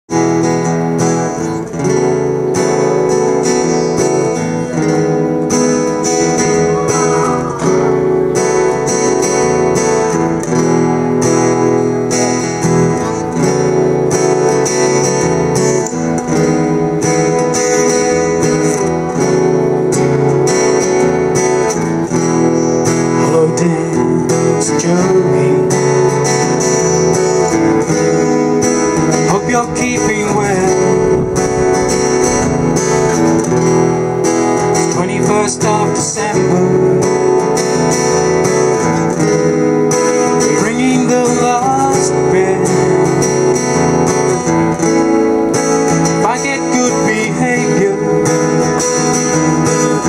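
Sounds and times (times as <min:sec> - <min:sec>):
acoustic guitar strumming: 0:00.1 - 0:50.0.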